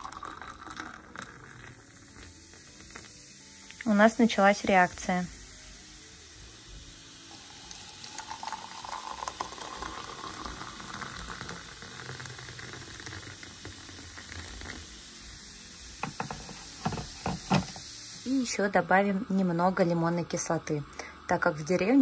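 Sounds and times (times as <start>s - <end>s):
powder fizzing in water: 0.0s - 18.6s.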